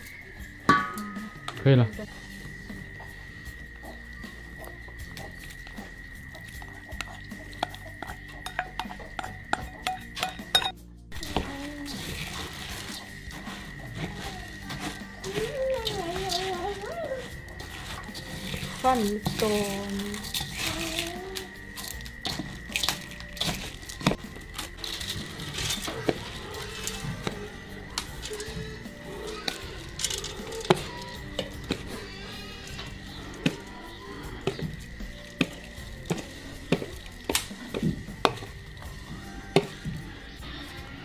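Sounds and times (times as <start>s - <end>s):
utensil clinking against bowl: 0.7s - 1.7s, 6.4s - 38.9s.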